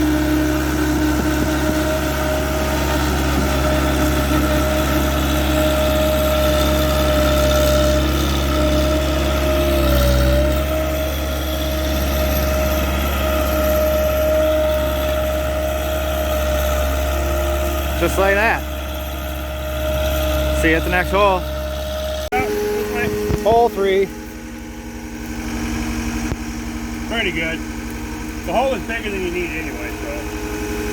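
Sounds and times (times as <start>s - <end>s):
auger engine running: 0.0s - 30.9s.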